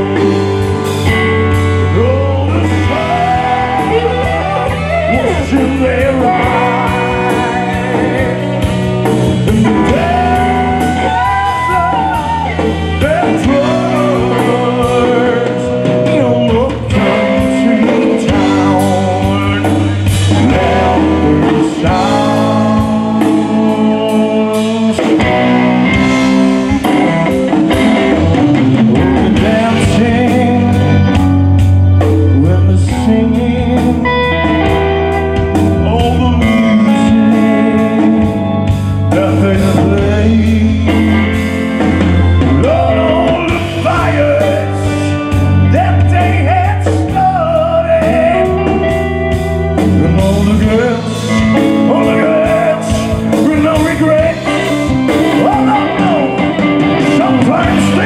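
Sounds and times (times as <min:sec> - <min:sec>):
man singing: 0:00.0 - 0:26.9, 0:28.9 - 0:58.0
blues-rock band playing: 0:00.0 - 0:58.0
drum kit: 0:00.0 - 0:58.0.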